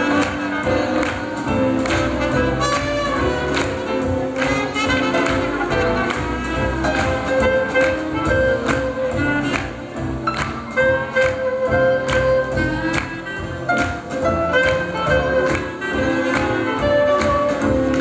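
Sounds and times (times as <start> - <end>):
swing jazz band playing: 0.0 - 18.0.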